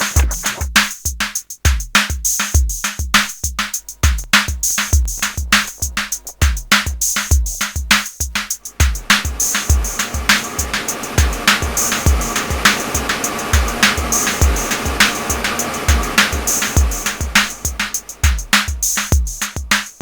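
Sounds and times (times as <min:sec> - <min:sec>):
electronic music with drum-machine beat: 0:00.0 - 0:20.0.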